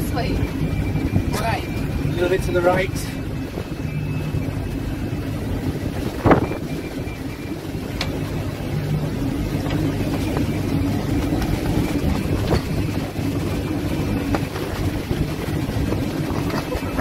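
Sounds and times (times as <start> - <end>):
diesel engine droning: 0.0 - 17.0
water noise: 0.0 - 17.0
wind: 0.0 - 17.0.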